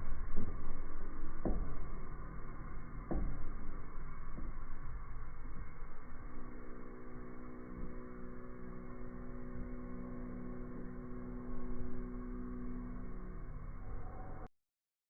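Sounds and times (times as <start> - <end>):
low hum: 0.0 - 14.5
rumbling background noise: 0.0 - 14.5.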